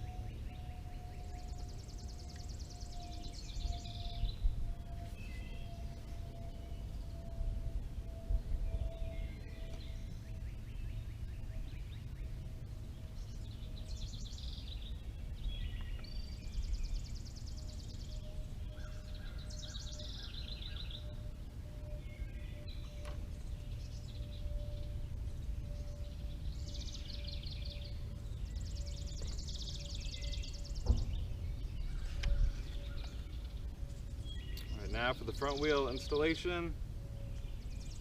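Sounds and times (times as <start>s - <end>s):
faint steady hum: 0.0s - 38.0s
low outdoor rumble: 0.0s - 38.0s
songbirds singing trills: 0.0s - 38.0s.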